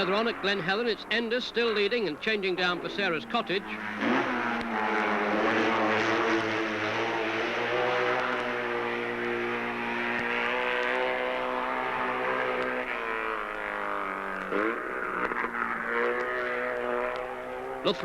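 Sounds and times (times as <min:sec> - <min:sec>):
racing motorcycle engine revving high: 0:00.0 - 0:18.0.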